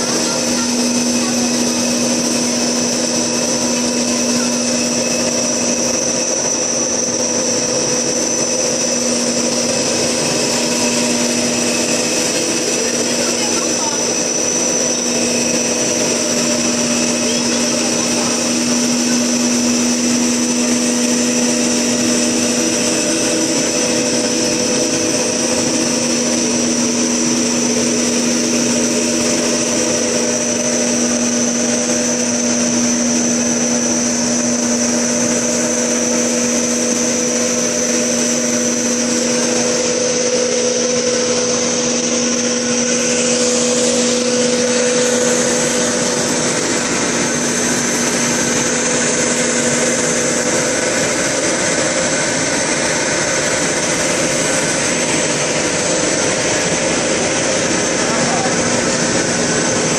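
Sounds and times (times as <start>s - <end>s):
high machine whine: 0.0s - 59.9s
low machine hum: 0.0s - 59.9s.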